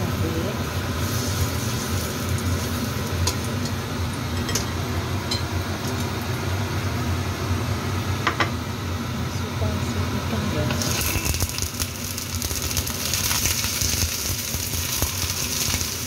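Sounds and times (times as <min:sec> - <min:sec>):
food sizzling in oil: 0:00.0 - 0:08.9, 0:10.5 - 0:16.0
low kitchen hum: 0:00.0 - 0:16.0.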